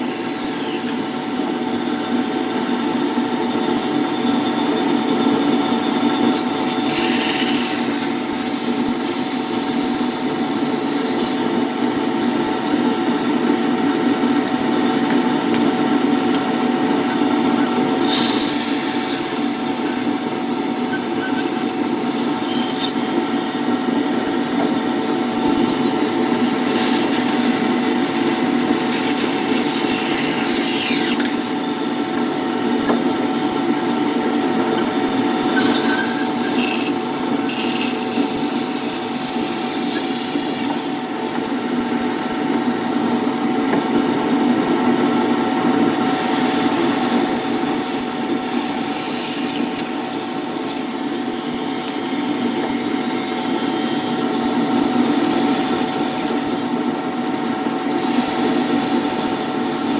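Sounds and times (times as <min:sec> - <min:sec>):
power tool cutting wood: 0:00.0 - 0:02.8, 0:06.2 - 0:41.0, 0:45.9 - 0:59.9.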